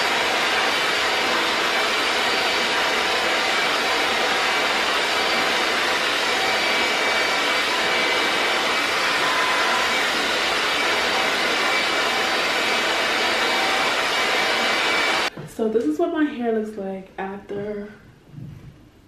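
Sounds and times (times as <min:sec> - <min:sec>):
hair dryer blowing air: 0:00.0 - 0:15.3.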